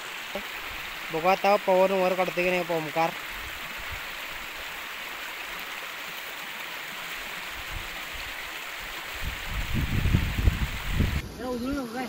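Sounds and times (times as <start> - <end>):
steady hiss of water: 0.0 - 12.0.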